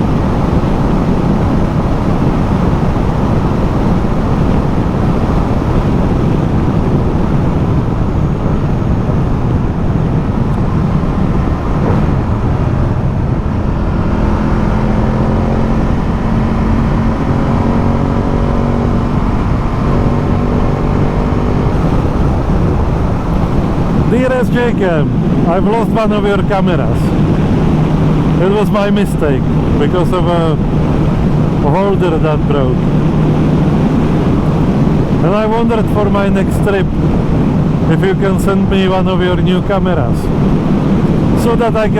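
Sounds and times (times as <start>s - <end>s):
motorcycle engine hum: 0.0s - 41.9s
wind and road rush: 0.0s - 41.9s.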